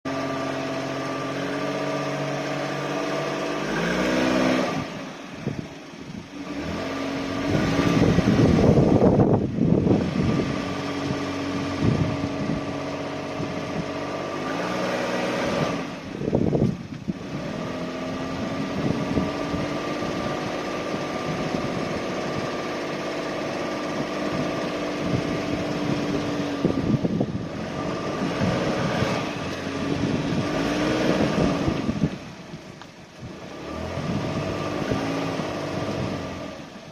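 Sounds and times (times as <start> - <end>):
car driving slowly: 0.0 - 36.9.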